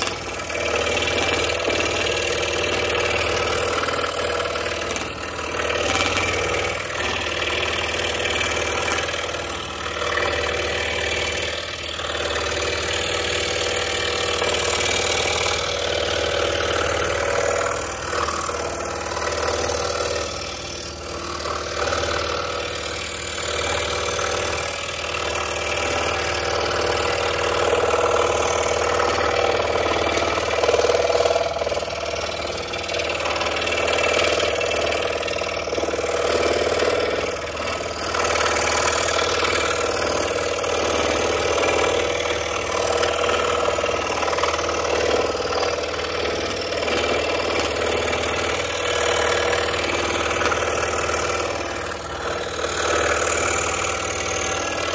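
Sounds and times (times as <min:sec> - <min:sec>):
scroll saw cutting: 0:00.0 - 0:54.9.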